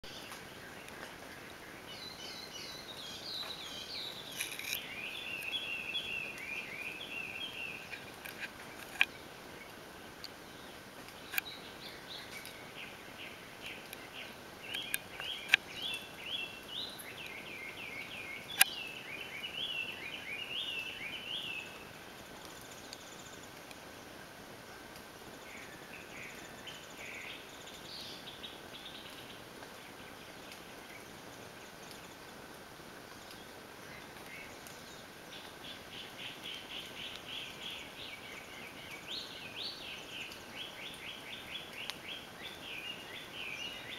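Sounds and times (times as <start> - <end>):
birds chirping: 0.0 - 43.9
steady hiss: 0.1 - 43.9.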